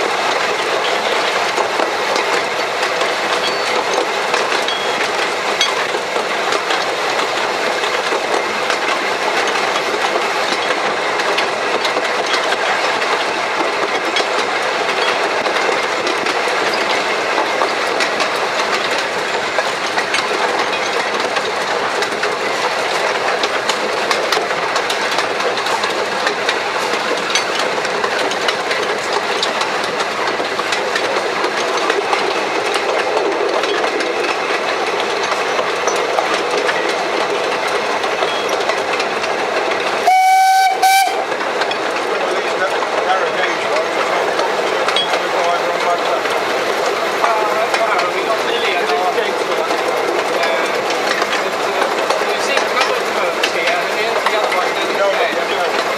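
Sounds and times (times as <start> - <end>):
steam locomotive running: 0.0 - 55.9
wheels clicking on track: 0.0 - 55.9.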